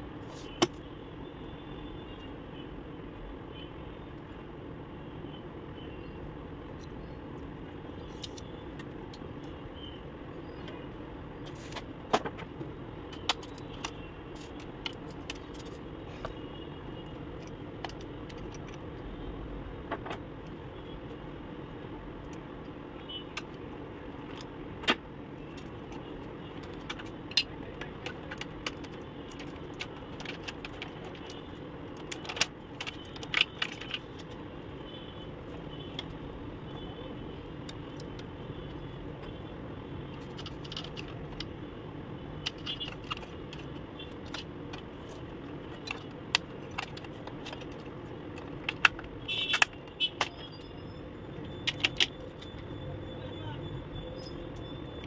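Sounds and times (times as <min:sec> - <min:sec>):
steady background noise: 0:00.0 - 0:55.0.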